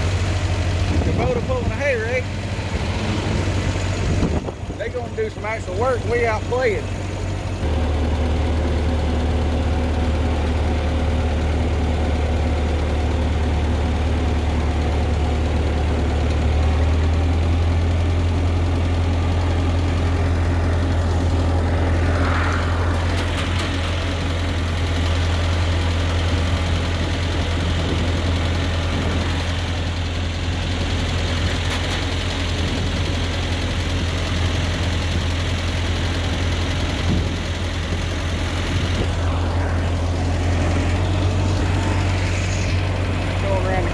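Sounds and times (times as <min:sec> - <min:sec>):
tractor engine droning: 0:00.0 - 0:43.9.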